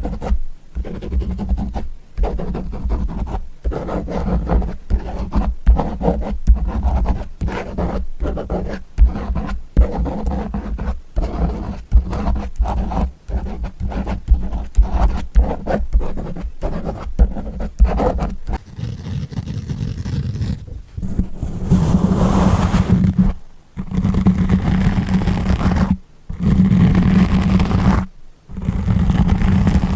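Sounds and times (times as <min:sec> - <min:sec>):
scratching and rubbing strokes: 0:00.0 - 0:29.9.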